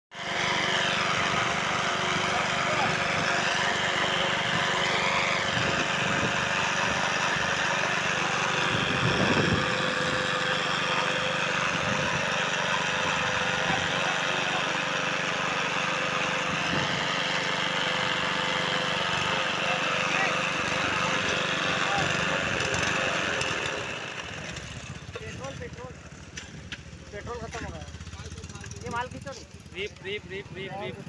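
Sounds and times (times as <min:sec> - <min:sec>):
engine running: 0:00.1 - 0:31.0.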